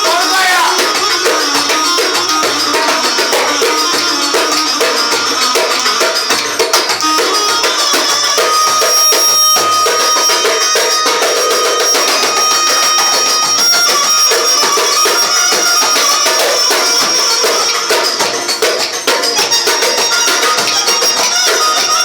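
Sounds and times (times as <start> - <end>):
hand percussion beat: 0.0 - 22.0.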